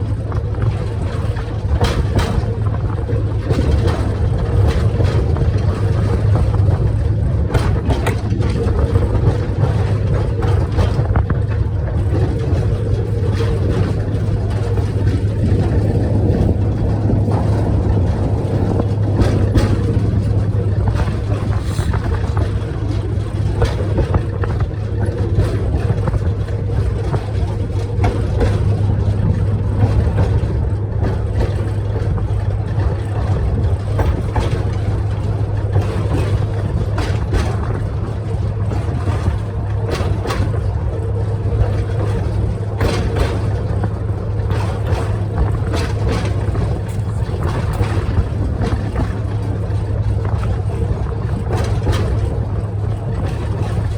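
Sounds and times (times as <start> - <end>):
low train engine drone: 0.0 - 53.9.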